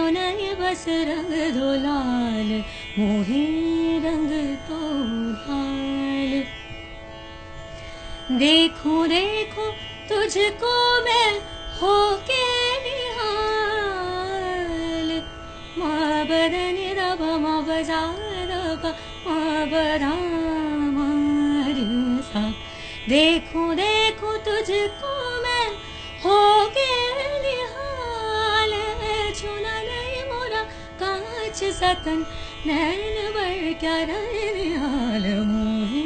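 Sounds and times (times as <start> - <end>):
woman singing: 0.0 - 6.5, 8.3 - 36.0.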